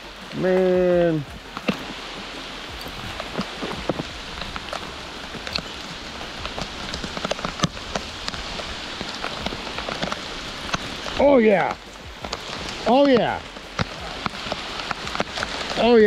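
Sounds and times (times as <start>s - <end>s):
rain falling on creek: 0.0s - 16.0s.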